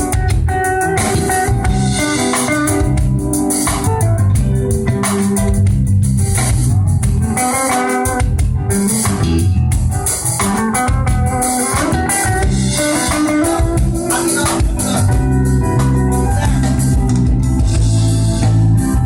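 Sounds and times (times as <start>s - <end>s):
bass guitar: 0.0s - 19.0s
drum kit: 0.0s - 19.0s
guitar melody: 0.0s - 19.0s.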